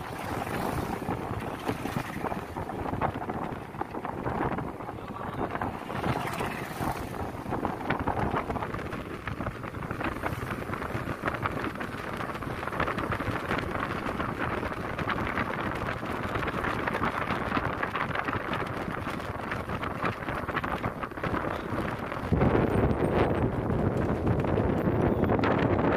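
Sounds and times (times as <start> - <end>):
moving vehicle running noise: 0.0 - 25.9
wind buffeting microphone: 0.0 - 25.9.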